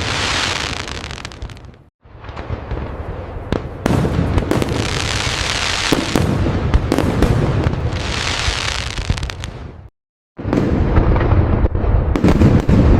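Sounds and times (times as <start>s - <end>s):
fireworks crackling: 0.0s - 12.9s.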